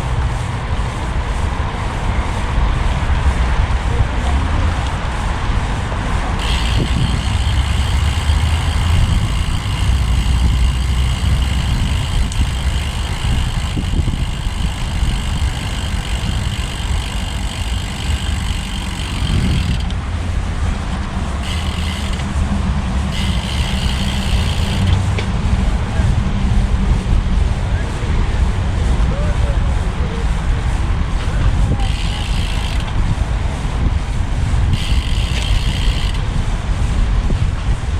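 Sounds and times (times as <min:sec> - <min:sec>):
high whine: 0:00.0 - 0:37.9
wind and rolling noise rumble: 0:00.0 - 0:37.9.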